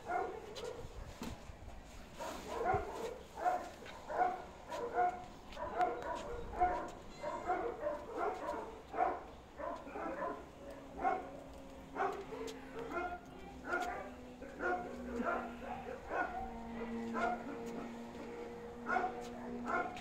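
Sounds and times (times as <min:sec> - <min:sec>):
dog barking: 0:00.0 - 0:01.2, 0:02.2 - 0:20.0.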